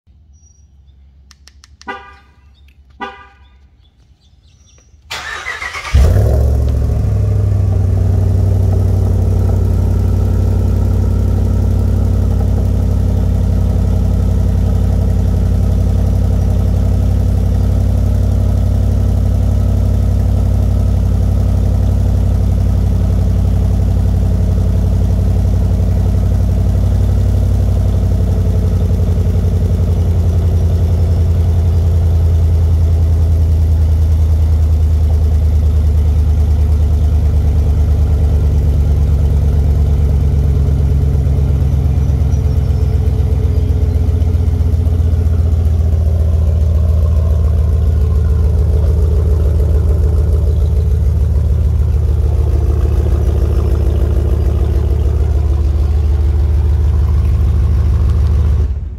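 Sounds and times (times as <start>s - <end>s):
car engine idling with deep rumble: 0.3s - 58.9s.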